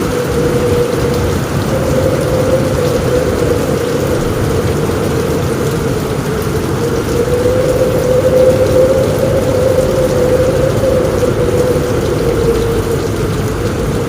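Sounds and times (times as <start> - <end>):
low rumble: 0.0 - 14.0
rain on a roof: 0.0 - 14.0.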